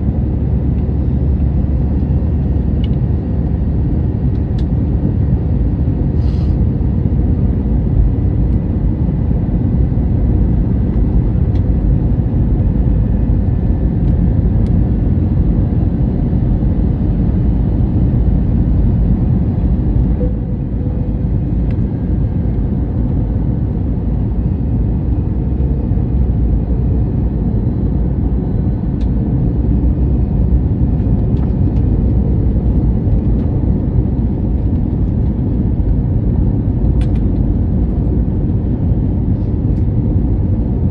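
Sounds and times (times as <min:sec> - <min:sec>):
aircraft cabin engine rumble: 0:00.0 - 0:40.9.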